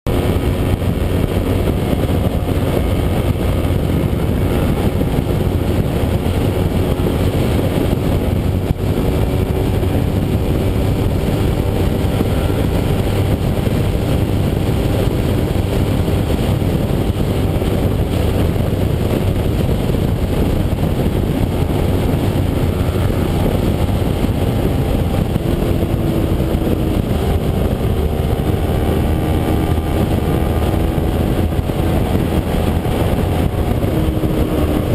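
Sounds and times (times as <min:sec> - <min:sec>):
heavy wind rush: 0:00.0 - 0:34.9
motorcycle engine running: 0:00.0 - 0:34.9.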